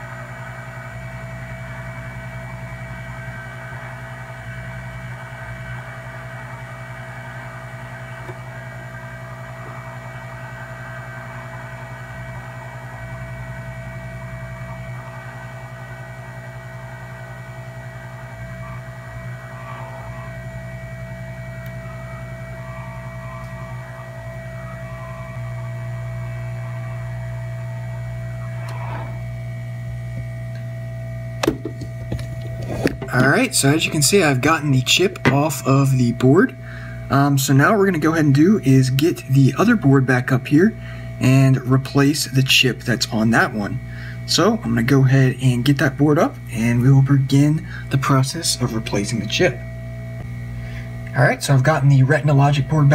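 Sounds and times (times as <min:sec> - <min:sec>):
hot air blower humming: 0:00.0 - 0:52.9.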